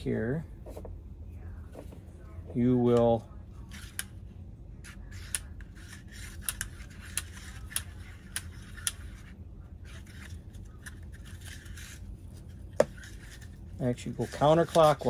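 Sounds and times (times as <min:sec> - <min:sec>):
rubbing and handling noise: 0:00.3 - 0:15.0.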